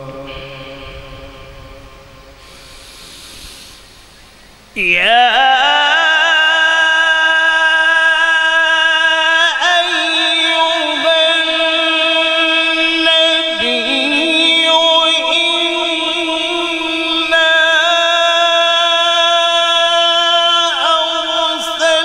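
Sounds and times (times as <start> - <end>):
man reciting melodically: 0.0 - 1.8, 4.7 - 22.0.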